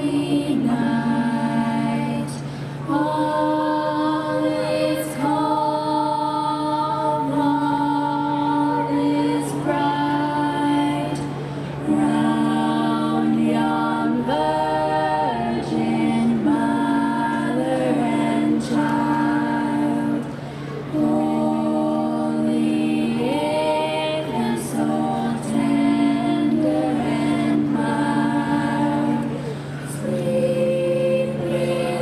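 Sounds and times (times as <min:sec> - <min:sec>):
choir singing in harmony: 0:00.0 - 0:32.0.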